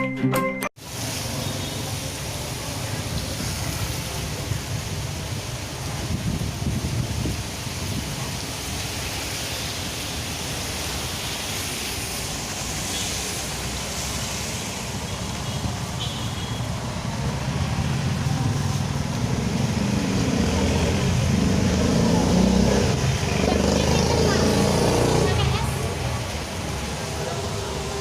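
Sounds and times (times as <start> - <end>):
heavy rain in strong wind: 0.8 - 28.0.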